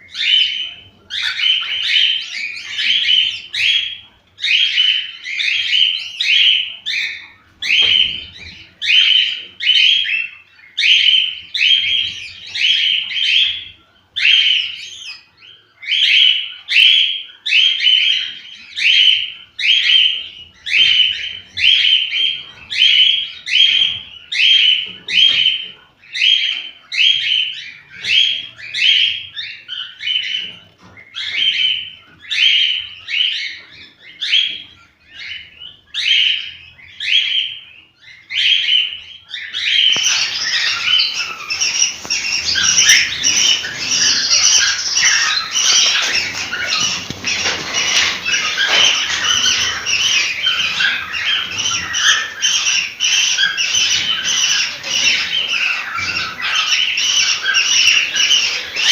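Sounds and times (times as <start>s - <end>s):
cockatiels chirping: 0.0s - 58.9s.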